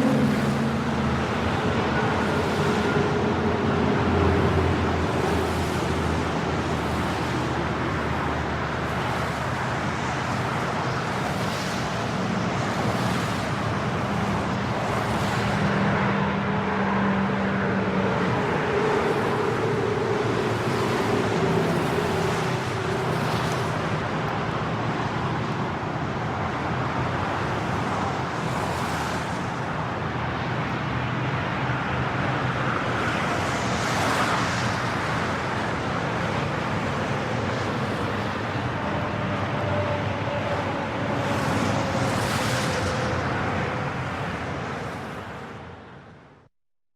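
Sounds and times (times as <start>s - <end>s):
tyres hissing on wet road: 0.0s - 45.8s
cars passing at highway speed: 0.0s - 46.4s.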